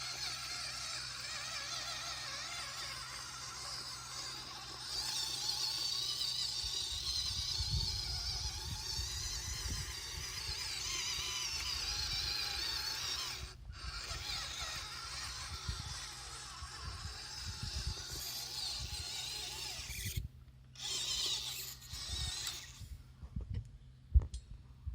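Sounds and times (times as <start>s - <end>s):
toy truck electric motor whining: 0.0s - 23.0s.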